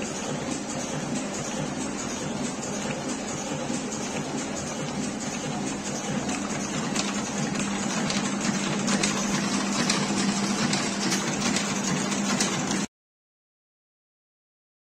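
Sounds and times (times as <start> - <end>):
machine motor hum: 0.0 - 12.9.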